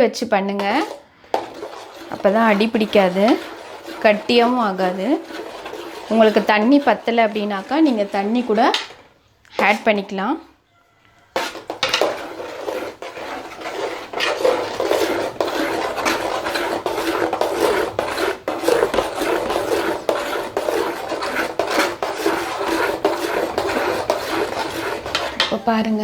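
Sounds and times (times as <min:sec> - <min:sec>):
utensil scraping batter in pan: 0:00.4 - 0:10.3, 0:11.2 - 0:26.0.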